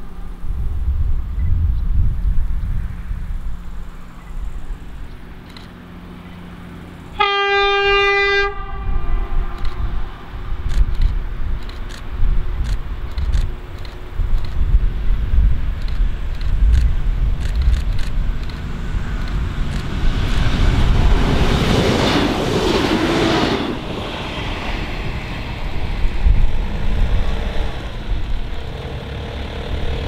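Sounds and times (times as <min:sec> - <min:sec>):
diesel railbus passing: 0:00.0 - 0:30.0.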